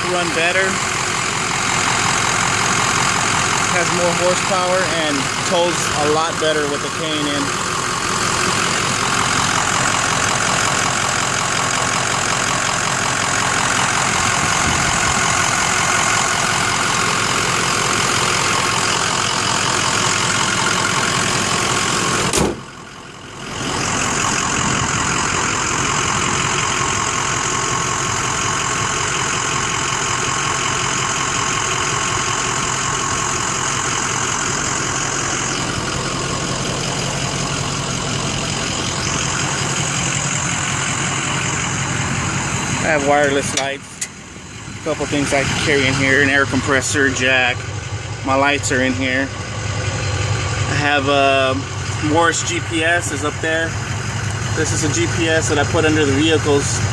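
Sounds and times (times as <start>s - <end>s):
diesel engine idling: 0.0s - 56.9s.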